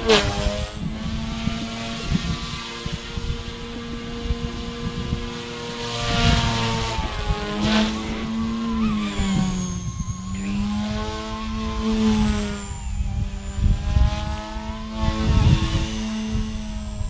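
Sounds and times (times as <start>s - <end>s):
rc helicopter rotors whining: 0.0s - 17.0s.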